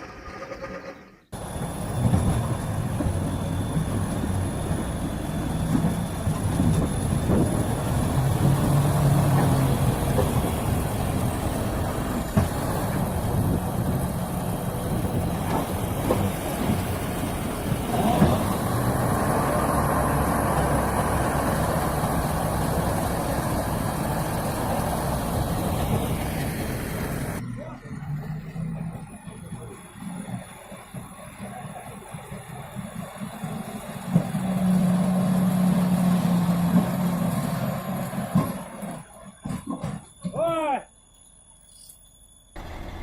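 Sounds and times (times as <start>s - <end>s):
heavy vehicle engine running: 0.0s - 40.2s, 42.6s - 43.0s.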